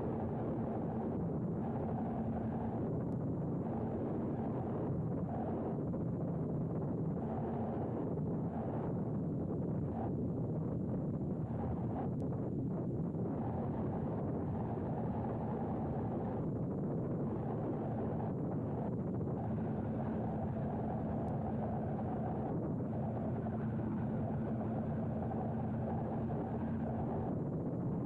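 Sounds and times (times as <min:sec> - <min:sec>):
low electric hum: 0:00.0 - 0:28.0
wind on microphone: 0:00.0 - 0:28.0.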